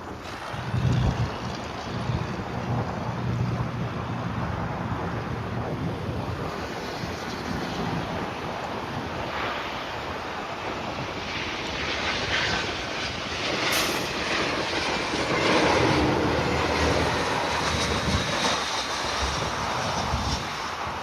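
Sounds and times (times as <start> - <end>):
jet airliner passing by: 0.0 - 21.0.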